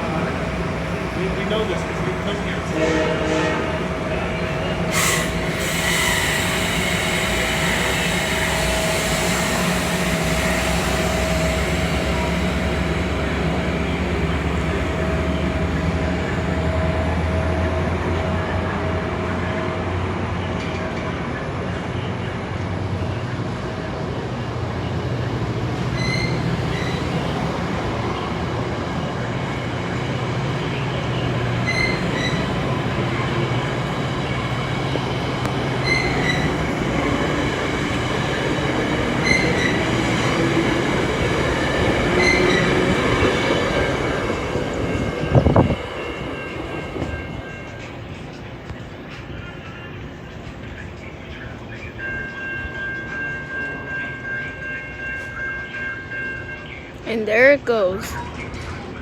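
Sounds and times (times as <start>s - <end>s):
diesel locomotive droning: 0.0s - 59.0s.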